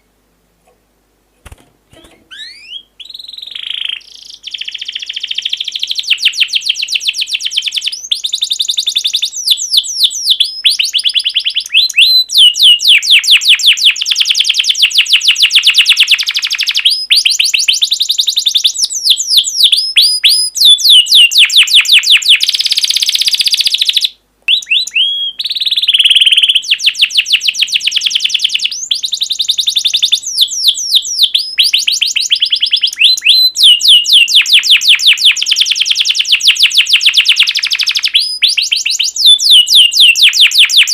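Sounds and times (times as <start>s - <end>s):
songbird trilling chirps: 2.3s - 40.9s.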